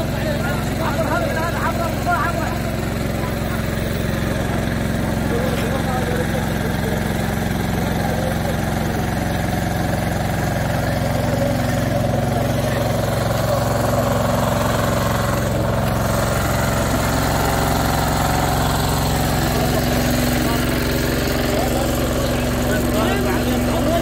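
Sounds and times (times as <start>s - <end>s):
engine idling: 0.0s - 24.0s
faint crowd voices: 0.0s - 24.0s.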